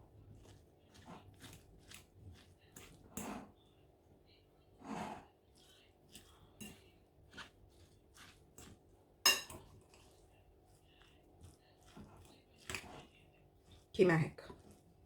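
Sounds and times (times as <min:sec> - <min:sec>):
broccoli being mashed: 0:00.0 - 0:03.8, 0:04.8 - 0:15.0.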